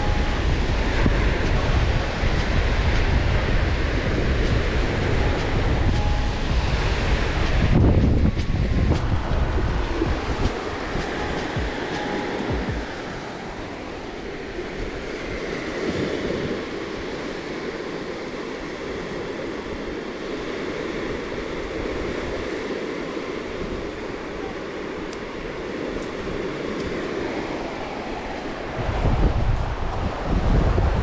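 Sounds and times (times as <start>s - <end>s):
surf washing onto beach: 0.0s - 31.0s
wind on microphone: 0.0s - 31.0s.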